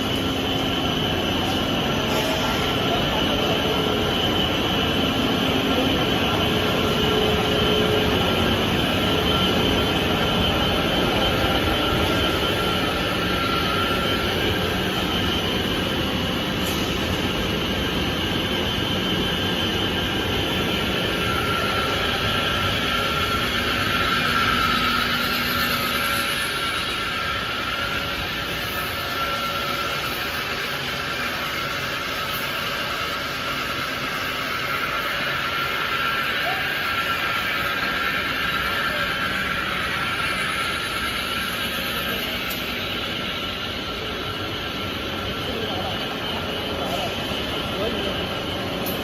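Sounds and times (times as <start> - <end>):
wire drawing machine drone: 0.0 - 49.0.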